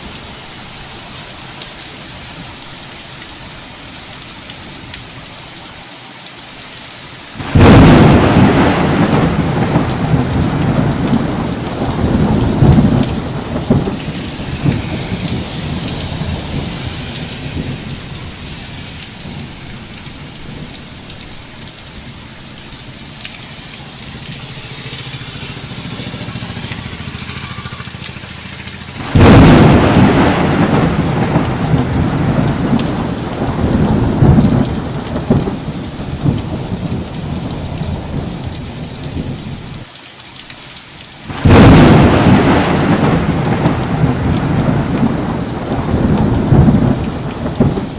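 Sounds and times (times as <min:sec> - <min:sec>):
heavy rain falling: 0:00.0 - 0:47.9
thunderclaps rumbling: 0:07.4 - 0:28.2, 0:28.8 - 0:39.9, 0:41.2 - 0:47.9.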